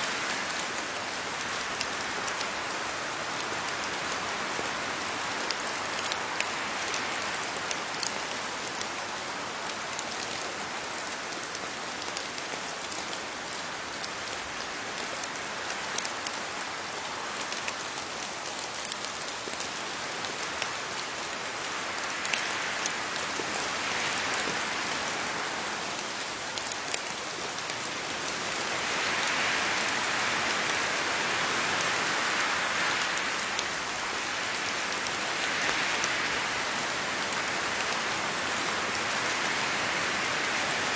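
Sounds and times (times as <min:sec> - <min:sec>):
rain pattering on leaves: 0:00.0 - 0:40.9.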